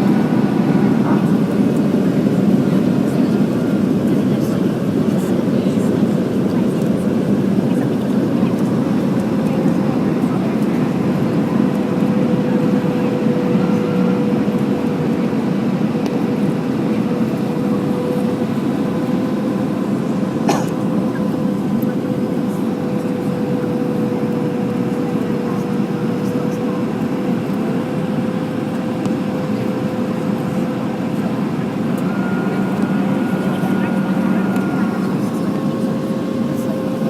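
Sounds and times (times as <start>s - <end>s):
airplane cabin noise: 0.0s - 37.0s.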